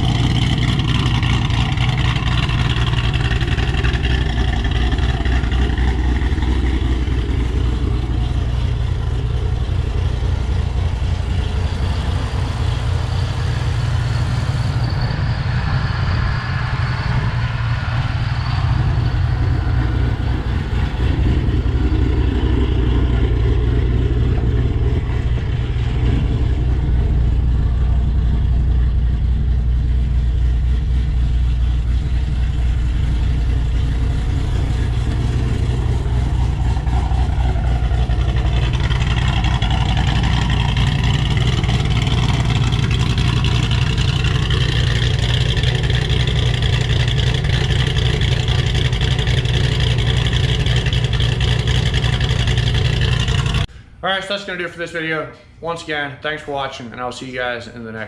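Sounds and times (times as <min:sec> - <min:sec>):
car engine idling: 0:00.0 - 0:55.8.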